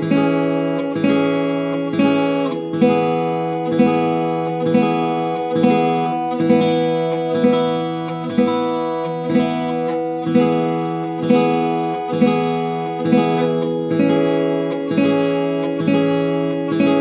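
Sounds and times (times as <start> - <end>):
acoustic guitar chords strummed: 0.0 - 17.0.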